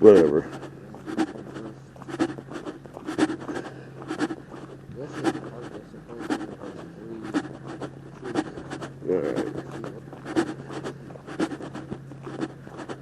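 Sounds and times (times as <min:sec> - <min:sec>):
footsteps walking: 0:00.0 - 0:13.0.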